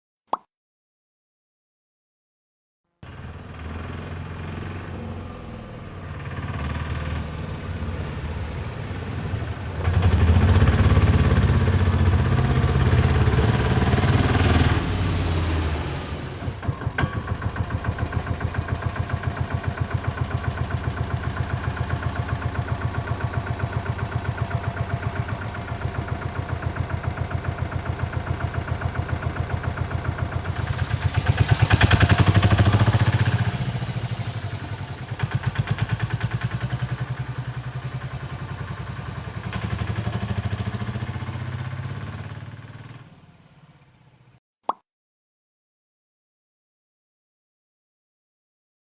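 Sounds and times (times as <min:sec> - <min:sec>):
diesel engine revving and idling: 0:03.0 - 0:44.2.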